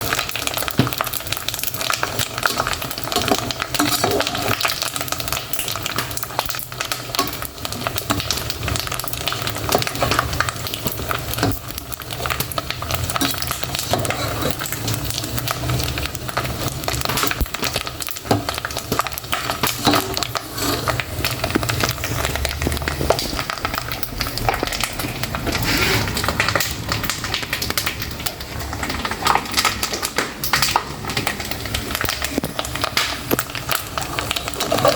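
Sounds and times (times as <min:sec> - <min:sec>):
pork rinds frying in oil: 0:00.0 - 0:34.9.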